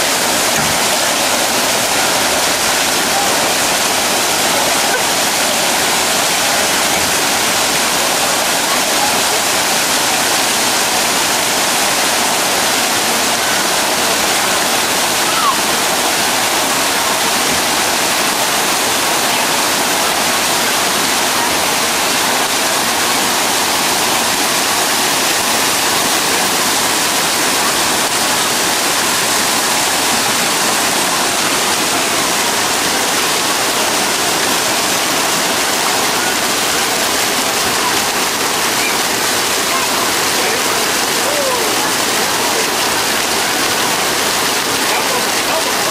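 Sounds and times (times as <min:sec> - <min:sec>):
fountains spraying and splashing: 0:00.0 - 0:45.9.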